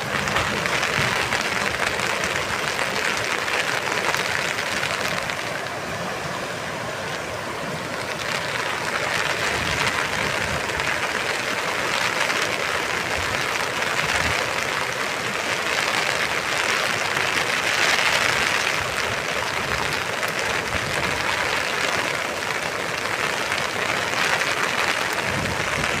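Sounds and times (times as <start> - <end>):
rushing floodwater: 0.0 - 26.0.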